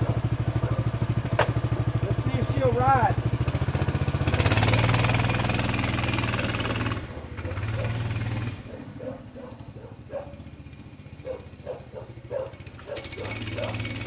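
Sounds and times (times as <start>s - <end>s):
minibike engine revving: 0.0s - 14.0s.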